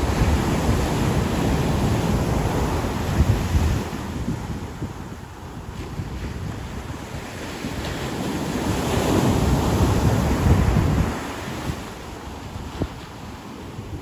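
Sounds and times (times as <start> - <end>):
ocean waves breaking on beach: 0.0 - 14.0
wind buffeting microphone: 0.0 - 14.0.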